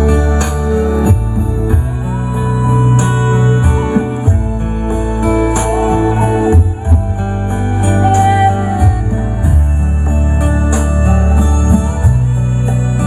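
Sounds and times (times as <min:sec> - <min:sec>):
bass: 0:00.0 - 0:13.0
guitar: 0:00.0 - 0:13.0
percussion: 0:00.0 - 0:13.0.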